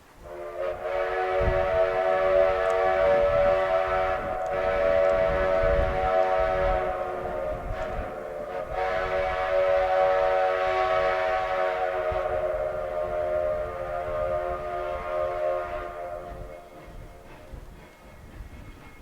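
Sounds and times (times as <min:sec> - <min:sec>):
steam locomotive whistle: 0:00.2 - 0:19.0.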